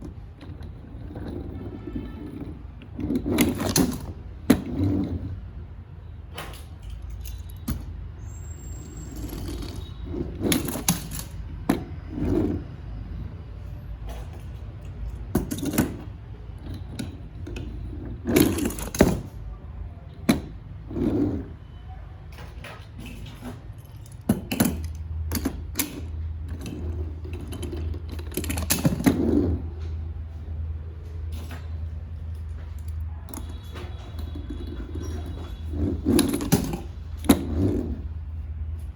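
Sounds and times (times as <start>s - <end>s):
metal toy cars clattering: 0.0s - 5.5s, 6.3s - 8.1s, 8.8s - 21.7s, 22.3s - 30.0s, 31.3s - 38.2s.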